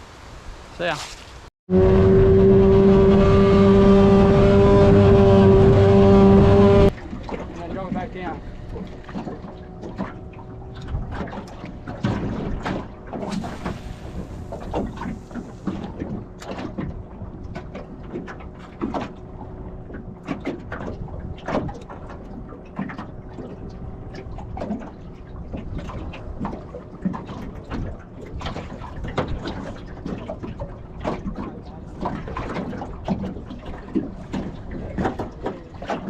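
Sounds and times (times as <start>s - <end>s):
water slapping against boat hull: 6.9s - 36.0s.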